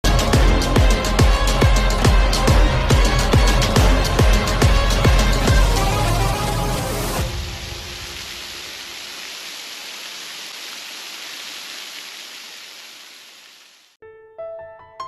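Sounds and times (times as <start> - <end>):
waterfall rushing: 1.0 - 14.0.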